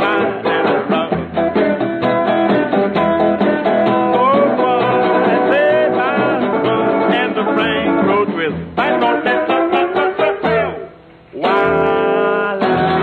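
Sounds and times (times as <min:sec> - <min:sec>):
man singing wordlessly: 0:00.0 - 0:01.8, 0:03.6 - 0:13.0
guitar strumming jazz chords: 0:00.0 - 0:13.0.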